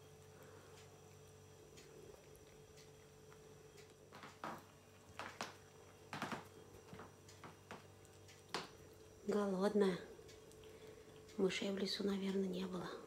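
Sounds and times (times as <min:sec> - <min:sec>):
cat chewing and smacking: 0:00.0 - 0:13.0.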